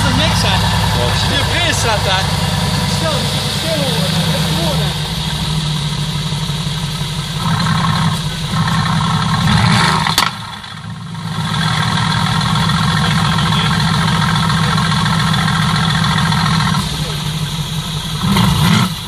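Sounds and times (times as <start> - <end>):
car engine idling: 0.0 - 19.0
exhaust crack: 0.0 - 19.0.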